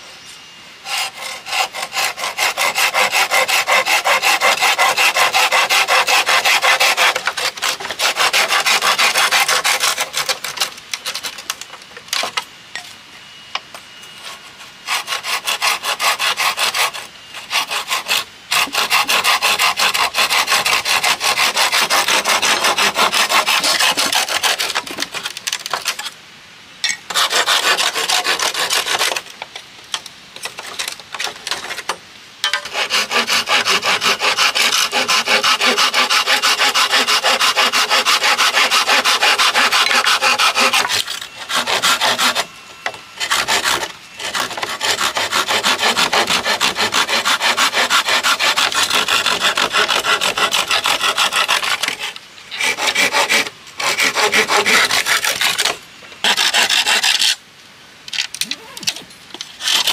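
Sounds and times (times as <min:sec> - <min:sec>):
hand saw cutting bamboo: 0:00.8 - 0:12.4, 0:14.2 - 0:26.1, 0:27.1 - 0:29.4, 0:30.4 - 0:57.4, 0:58.2 - 0:59.9.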